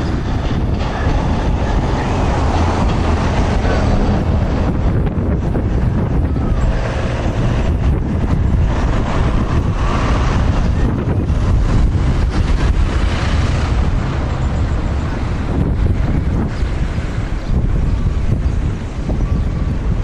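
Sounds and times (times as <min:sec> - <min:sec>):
diesel train running: 0:00.0 - 0:20.0
wind buffeting microphone: 0:00.0 - 0:20.0.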